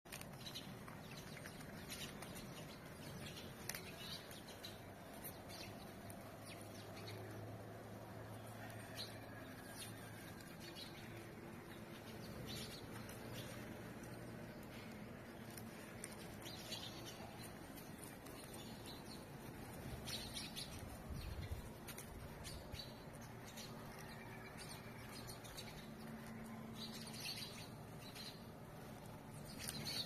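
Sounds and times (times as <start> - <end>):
low steady hum: 0.1 - 30.0.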